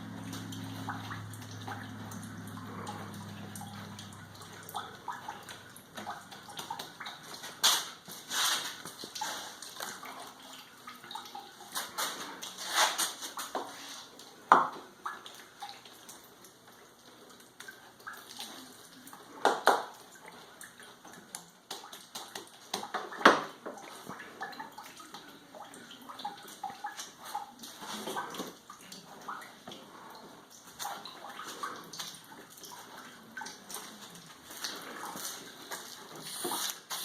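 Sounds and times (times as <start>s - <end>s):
pulp sloshing in a bucket: 0.0s - 37.0s.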